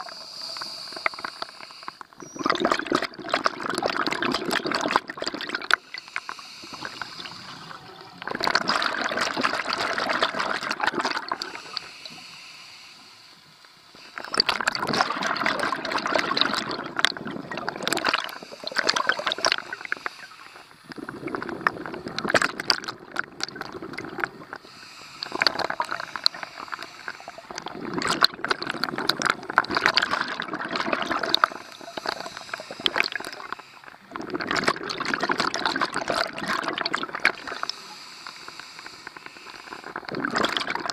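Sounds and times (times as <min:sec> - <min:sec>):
scuba regulator bubbling exhale: 0:00.0 - 0:12.6, 0:14.0 - 0:40.9.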